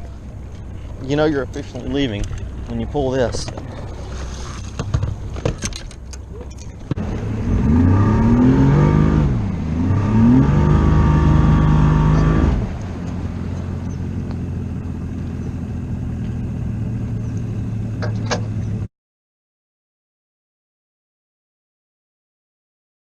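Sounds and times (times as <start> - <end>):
outboard motor revving: 0.0 - 18.8.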